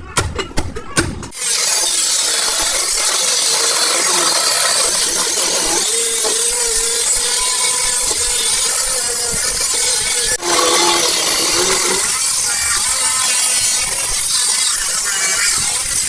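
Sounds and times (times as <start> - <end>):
power tool grinding metal: 1.3 - 16.0.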